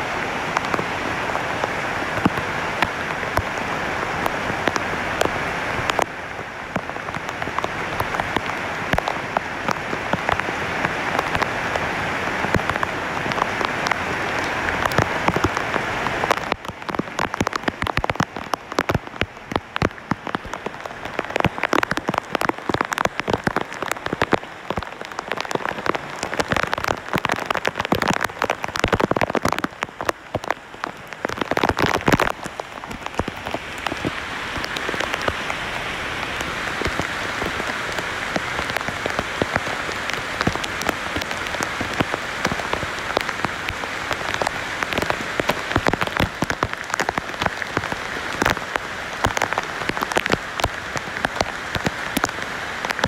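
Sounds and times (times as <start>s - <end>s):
heavy rain on tree leaves: 0.0s - 53.0s.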